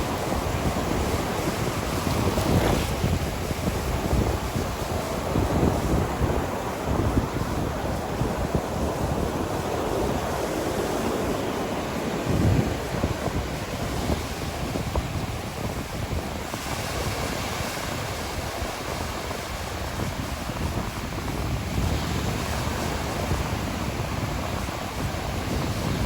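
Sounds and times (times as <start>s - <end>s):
sea waves washing onto shore: 0.0s - 26.0s
wind: 0.0s - 26.0s.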